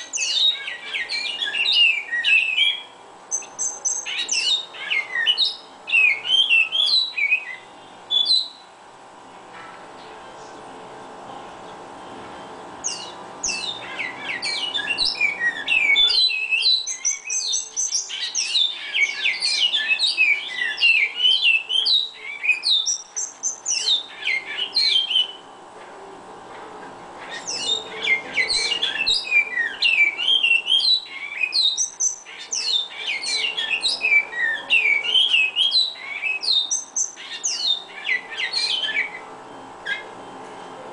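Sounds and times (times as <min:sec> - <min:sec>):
bird singing rapid warbled notes: 0:00.0 - 0:25.8, 0:26.8 - 0:40.9.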